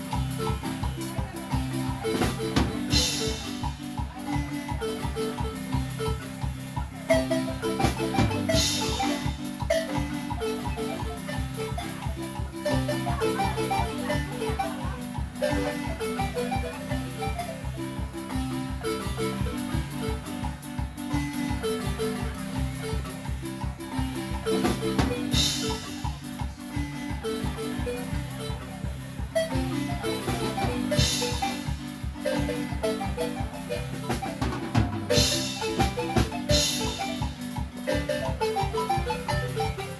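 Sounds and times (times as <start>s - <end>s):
marimba dance tune: 0.0s - 39.9s.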